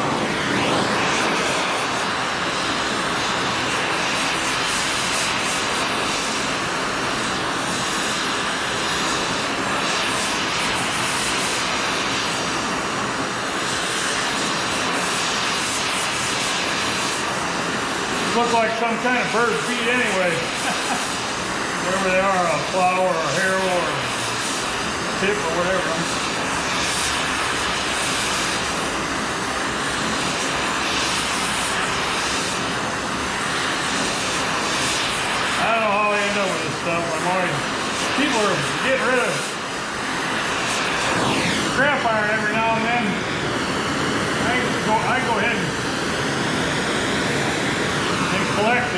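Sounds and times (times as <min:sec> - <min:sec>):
cutting torch hissing roar: 0:00.0 - 0:48.9
steady machine noise: 0:00.0 - 0:48.9.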